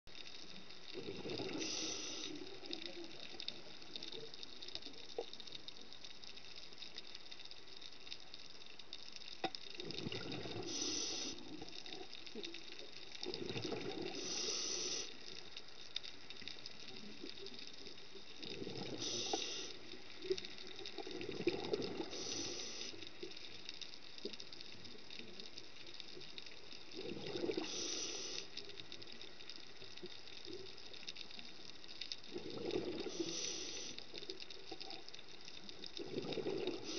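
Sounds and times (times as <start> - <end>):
faint steady crackle: 0.0 - 36.9.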